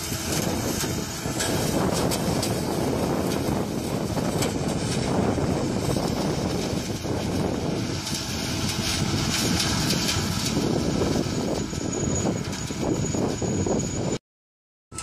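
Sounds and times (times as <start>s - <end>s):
combine harvester running: 0.0s - 14.2s.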